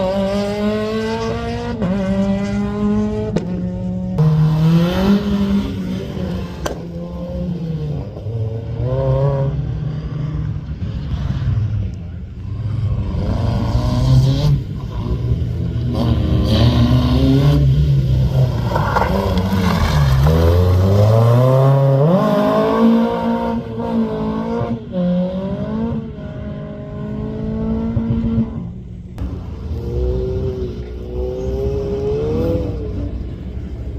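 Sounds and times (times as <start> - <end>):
rally car engine accelerating: 0.0 - 33.9.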